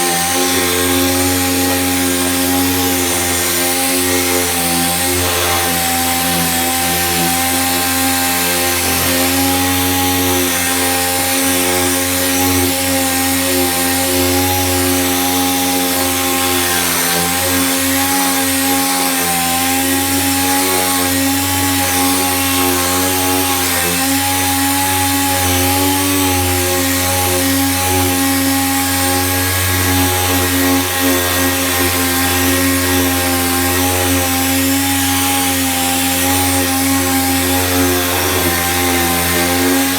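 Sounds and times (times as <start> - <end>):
power sander on metal: 0.0 - 39.9.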